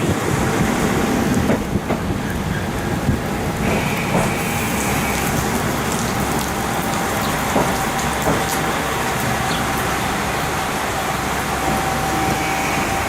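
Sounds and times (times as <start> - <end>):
wheel-on-rail noise: 0.0 - 13.0.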